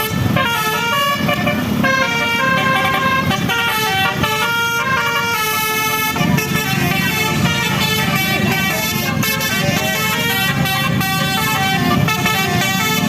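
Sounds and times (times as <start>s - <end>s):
air horns playing a tune: 0.0s - 13.0s.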